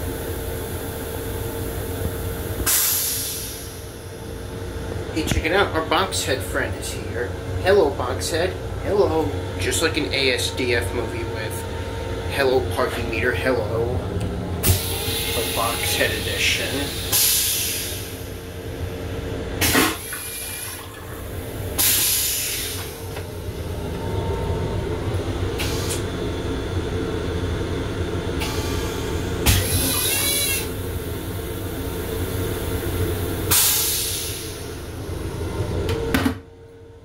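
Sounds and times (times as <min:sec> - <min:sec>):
train low rumble: 0:00.0 - 0:29.5, 0:30.7 - 0:37.0.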